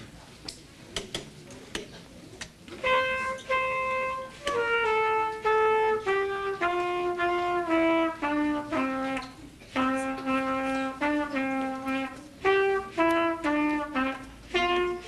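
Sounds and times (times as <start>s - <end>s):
solo trumpet melody: 2.8s - 15.0s.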